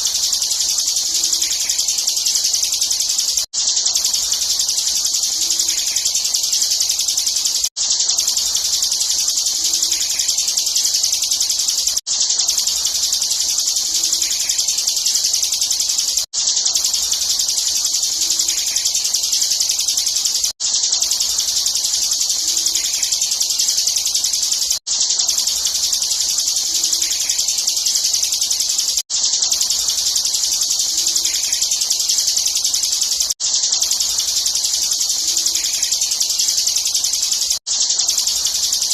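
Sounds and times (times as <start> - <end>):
bird singing rapid high song: 0.0 - 38.9.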